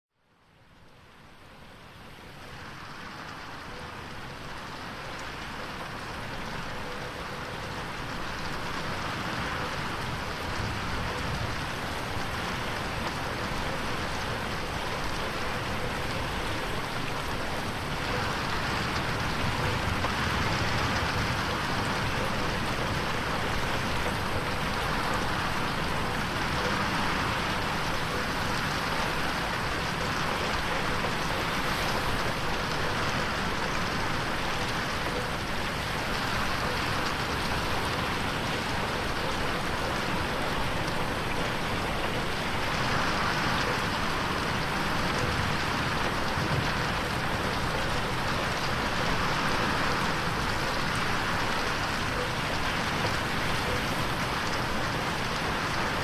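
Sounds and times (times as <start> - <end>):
rain on a window pane: 0.2 - 56.0.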